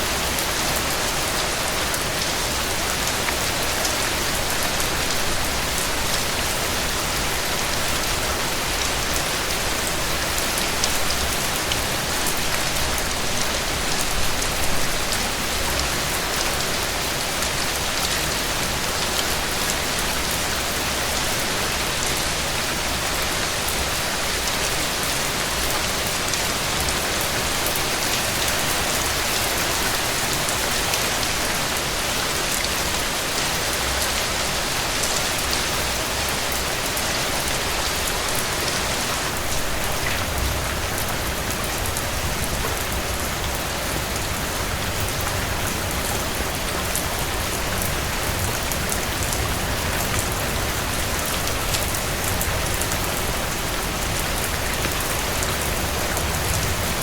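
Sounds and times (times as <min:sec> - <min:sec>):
heavy rain on a porch: 0:00.0 - 0:57.0.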